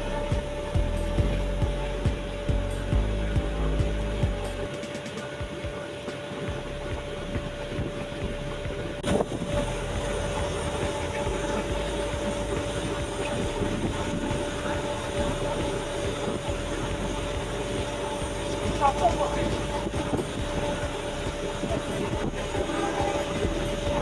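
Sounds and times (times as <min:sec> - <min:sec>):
constant whine: 0:00.0 - 0:24.0
engine running steadily: 0:00.0 - 0:24.0.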